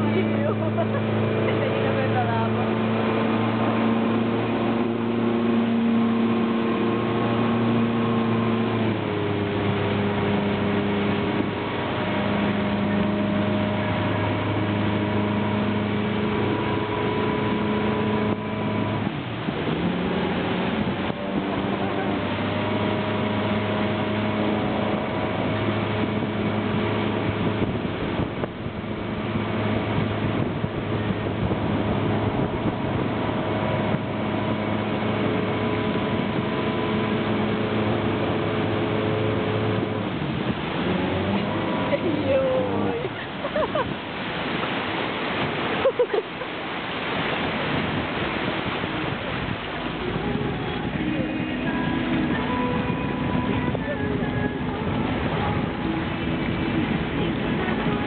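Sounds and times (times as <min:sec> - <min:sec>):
motorboat engine drone: 0:00.0 - 0:58.0
rush of boat wake: 0:00.0 - 0:58.0.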